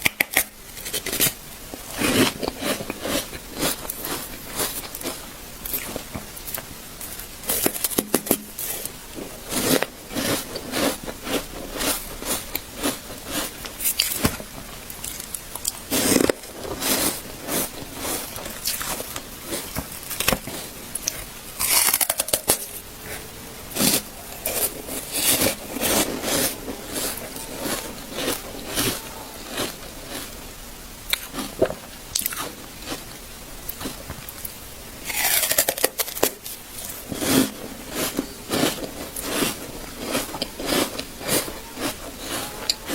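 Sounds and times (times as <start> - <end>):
person chewing hard ice: 0.0 - 30.4, 31.1 - 42.9.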